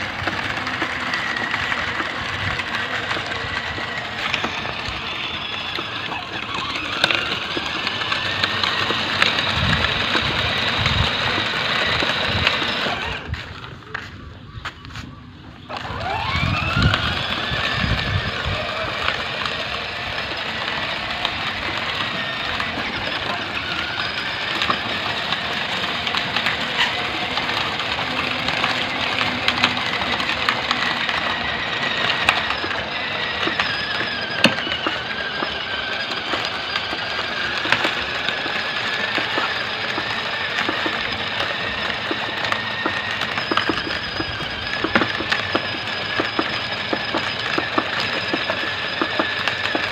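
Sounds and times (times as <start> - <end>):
toy tractor motor whine: 0.0 - 49.9.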